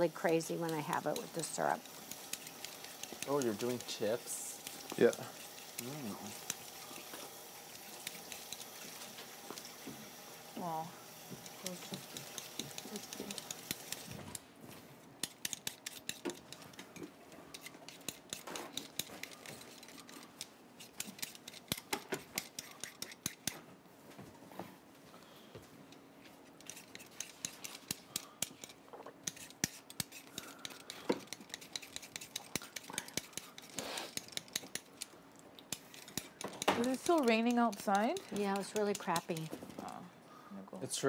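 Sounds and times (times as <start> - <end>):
utensils clicking on a counter: 0.4 - 9.8, 11.4 - 14.4, 15.2 - 23.6, 26.6 - 40.0.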